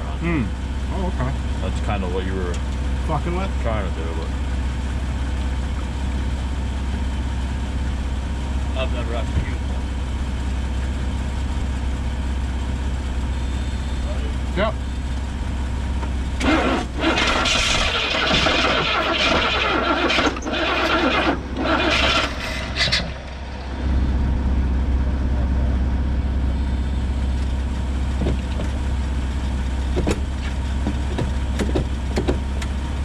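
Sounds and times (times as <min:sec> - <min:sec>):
car engine cranking and firing: 0:00.0 - 0:33.0
steady low hum: 0:00.0 - 0:33.0.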